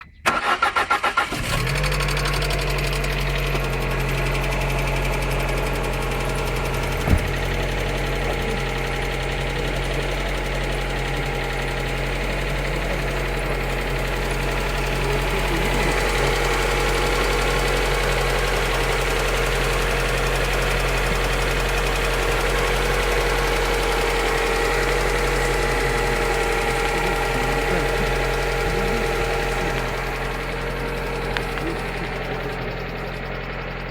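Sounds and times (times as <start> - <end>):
car engine starting and idling: 0.0 - 33.9
engine knock: 0.4 - 33.9.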